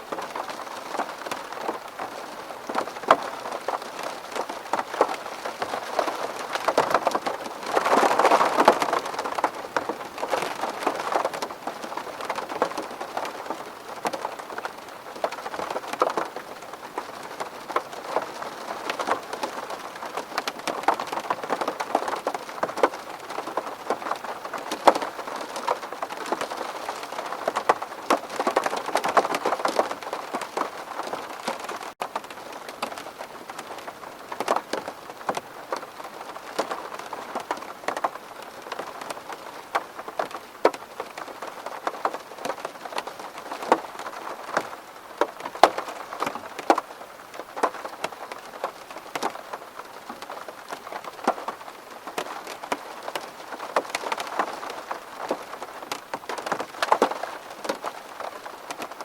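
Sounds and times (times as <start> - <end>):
rain striking a window: 0.0 - 59.0.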